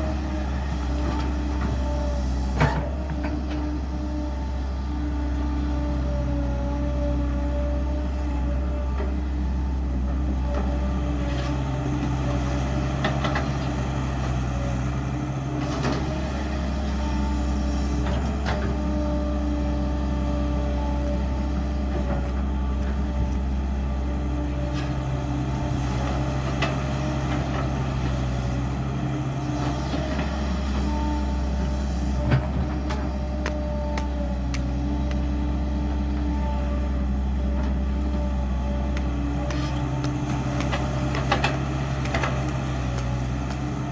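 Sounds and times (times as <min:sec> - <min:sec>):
heavy machinery engine running: 0:00.0 - 0:43.9.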